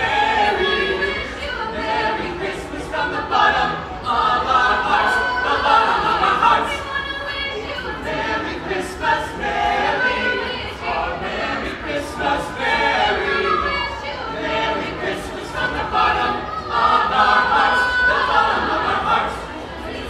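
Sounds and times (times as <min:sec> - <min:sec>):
choir singing a carol: 0:00.0 - 0:20.0.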